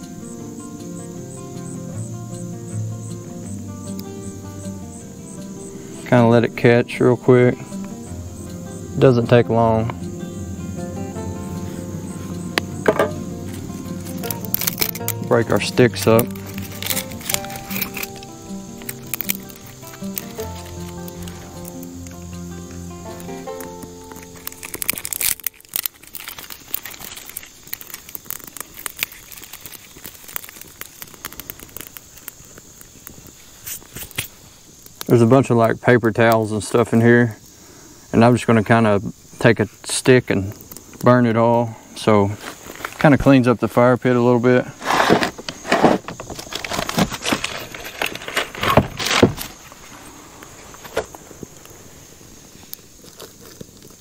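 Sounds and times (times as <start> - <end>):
twig fire crackling and popping: 0.0 - 54.0.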